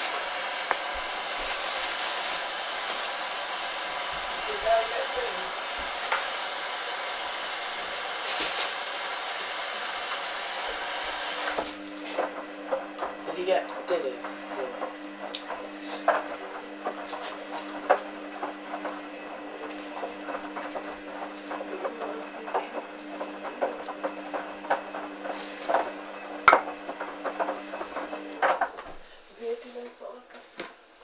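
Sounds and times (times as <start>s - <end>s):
washing machine motor hum: 0.0s - 30.2s.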